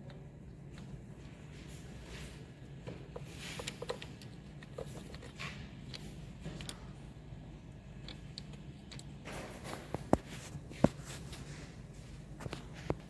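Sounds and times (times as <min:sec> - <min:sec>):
faint handling noises: 0:00.0 - 0:13.0.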